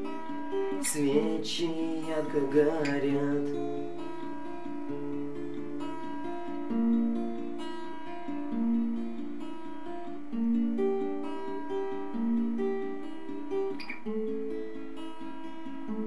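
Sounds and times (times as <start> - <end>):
guitar playing chords: 0.0 - 16.0.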